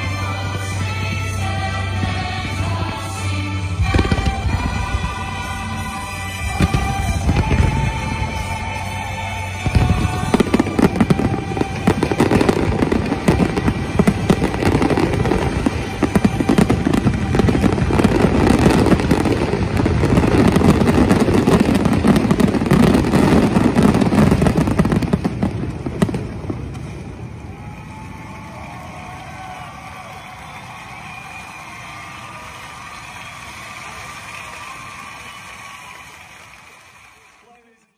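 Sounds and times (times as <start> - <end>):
fireworks bursting and crackling: 0.0 - 37.7.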